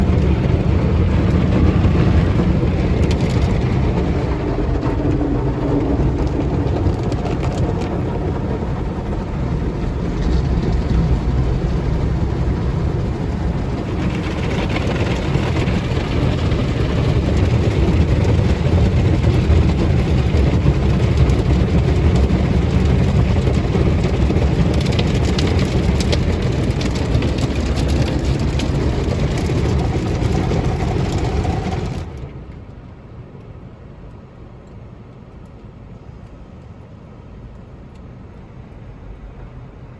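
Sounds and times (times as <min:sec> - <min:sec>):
car wash low rumble: 0:00.0 - 0:39.9.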